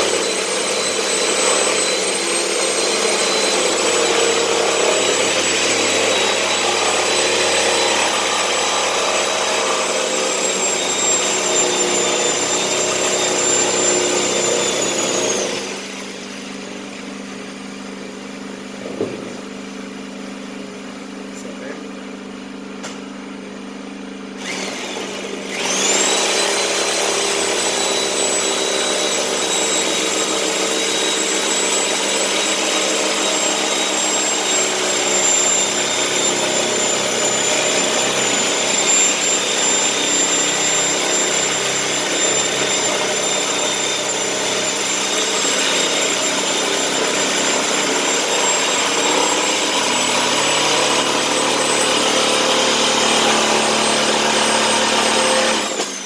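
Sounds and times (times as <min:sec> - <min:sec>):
electric power tool whining: 0:00.0 - 0:20.2, 0:24.2 - 0:56.0.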